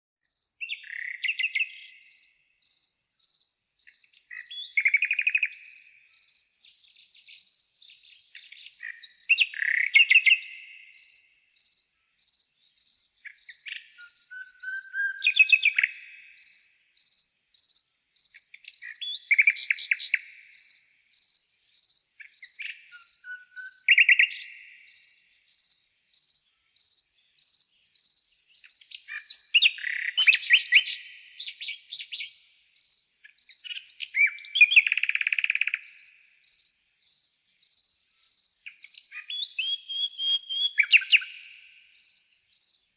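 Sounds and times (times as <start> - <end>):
songbird singing phrases: 0.2 - 42.9.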